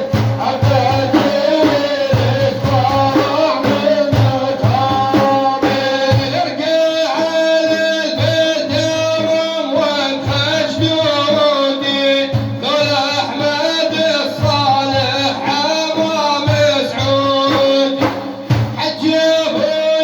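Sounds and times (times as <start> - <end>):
person chanting a praise poem: 0.0 - 20.0.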